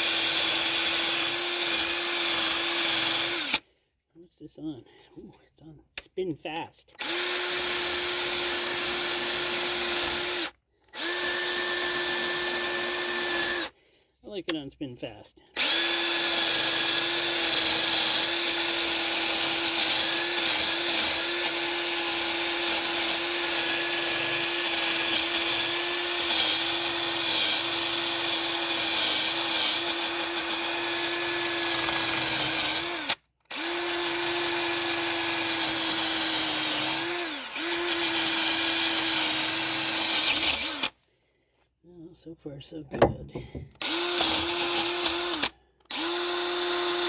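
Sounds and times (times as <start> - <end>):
electric drill with wire brush: 0.0 - 3.6, 7.0 - 13.7, 15.6 - 41.0, 43.6 - 47.0.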